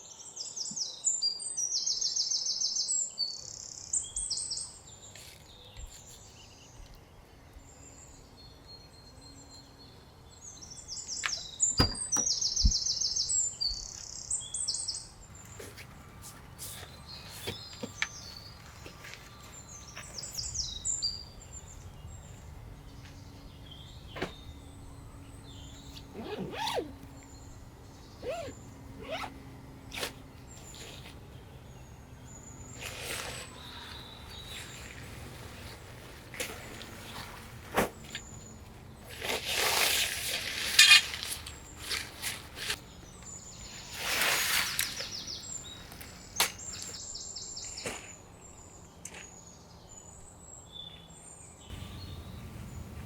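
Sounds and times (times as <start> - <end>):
outdoor background: 0.0 - 53.0
small birds chirping: 7.6 - 53.0.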